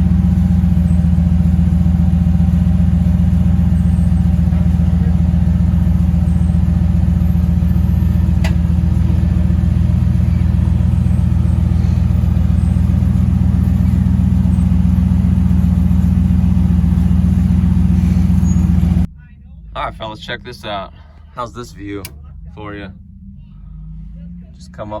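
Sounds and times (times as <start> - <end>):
truck engine at low revs: 0.0 - 25.0.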